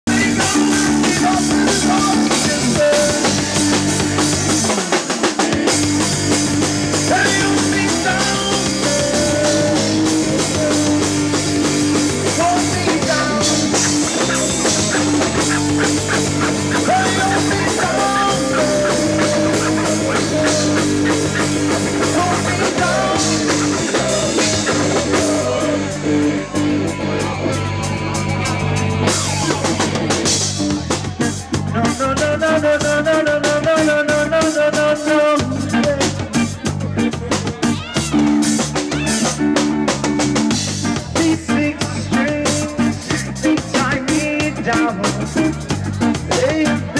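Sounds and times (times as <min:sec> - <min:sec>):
bending lead guitar melody: 0:00.1 - 0:46.9
live rock band playing loudly: 0:00.1 - 0:46.9.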